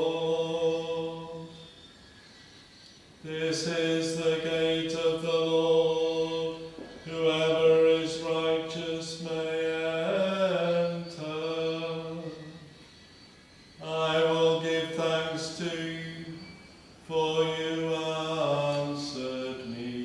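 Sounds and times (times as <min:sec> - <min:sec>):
person chanting psalm verses: 0:00.0 - 0:01.8, 0:03.2 - 0:12.8, 0:13.8 - 0:20.0.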